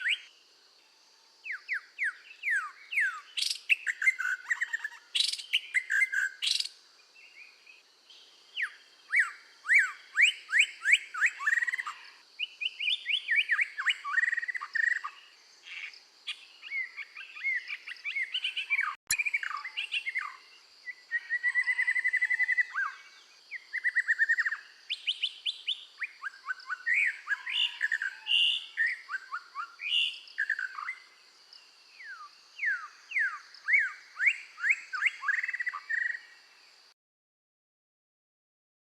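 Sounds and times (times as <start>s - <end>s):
bird singing whistled notes: 0.0s - 0.3s, 1.4s - 36.5s.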